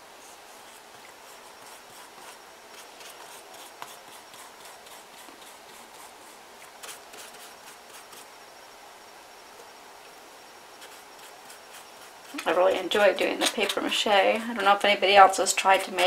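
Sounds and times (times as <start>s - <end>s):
paintbrush dabbing and scraping: 0.2s - 8.3s, 10.8s - 16.0s.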